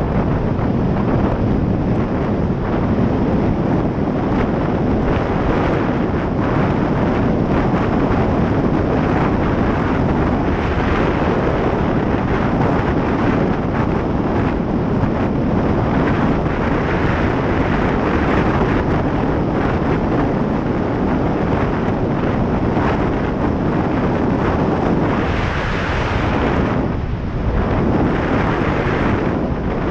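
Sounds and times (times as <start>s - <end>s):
loud wind noise on microphone: 0.0s - 29.9s.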